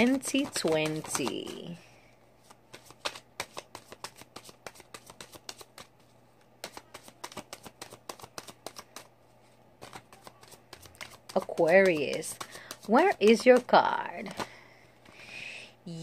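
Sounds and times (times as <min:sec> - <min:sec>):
cards being shuffled: 0:00.0 - 0:01.8, 0:02.4 - 0:14.6.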